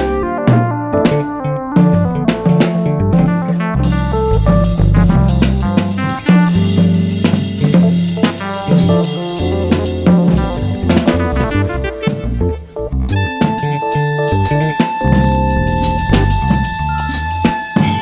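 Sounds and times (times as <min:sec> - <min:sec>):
cymbals: 0:00.0 - 0:12.2, 0:13.2 - 0:18.0
drum kit hits: 0:00.0 - 0:12.4, 0:13.1 - 0:18.0
jazz band playing: 0:00.0 - 0:18.0.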